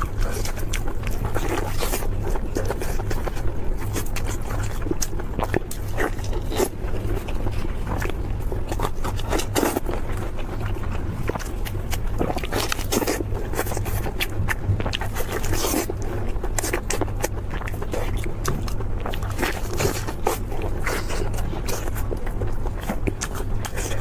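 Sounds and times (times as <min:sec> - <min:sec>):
crunchy chewing: 0:00.0 - 0:24.0
steady low hum: 0:00.0 - 0:24.0.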